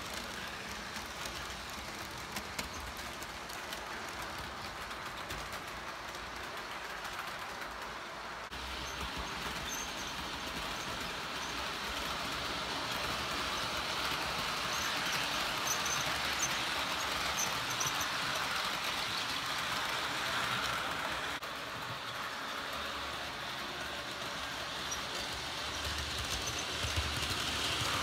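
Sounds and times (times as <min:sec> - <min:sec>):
model train wheels whirring: 0:00.0 - 0:28.0.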